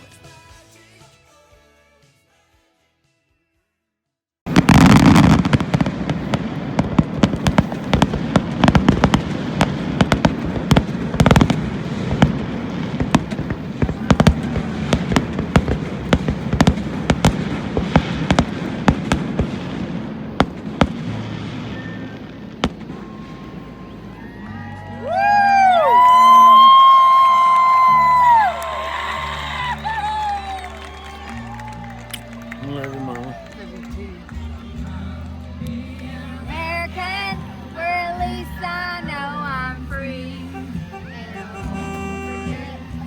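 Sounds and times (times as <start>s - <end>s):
fireworks bangs and crackles: 4.5s - 43.0s.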